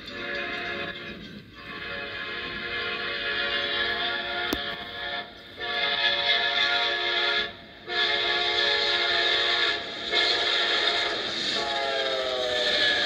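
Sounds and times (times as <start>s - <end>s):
locomotive horn blasts: 1.6s - 13.0s.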